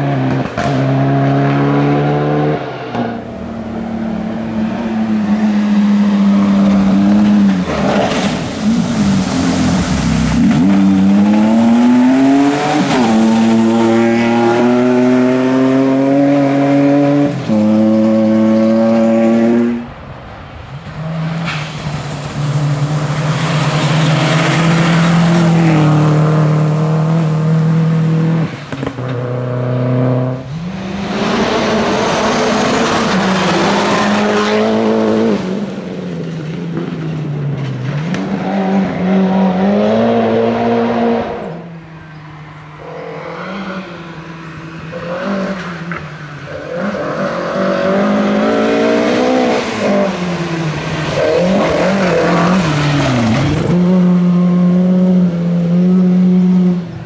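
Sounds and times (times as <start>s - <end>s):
rally car engines revving: 0.0s - 20.0s, 20.8s - 57.0s.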